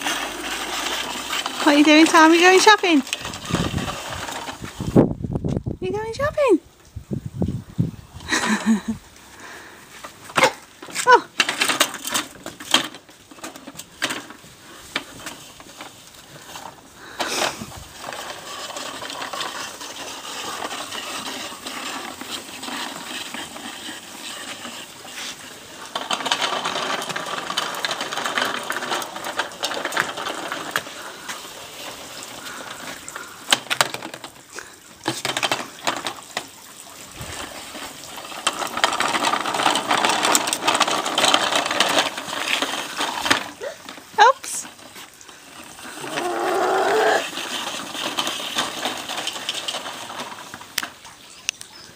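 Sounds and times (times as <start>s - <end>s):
toy trolley wheels rattling on paving: 0.0s - 6.6s, 8.1s - 51.9s.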